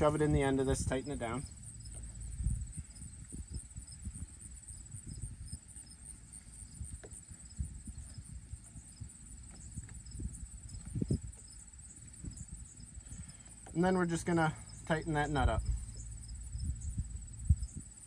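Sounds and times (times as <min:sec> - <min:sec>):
insects chirring: 0:00.0 - 0:18.0
low rumble: 0:00.0 - 0:18.0.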